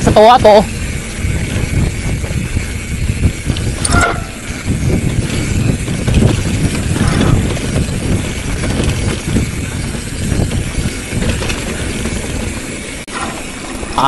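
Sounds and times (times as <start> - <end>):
bicycle rattling over dirt trail: 0.0 - 14.0
heavy low rumble: 0.0 - 14.0.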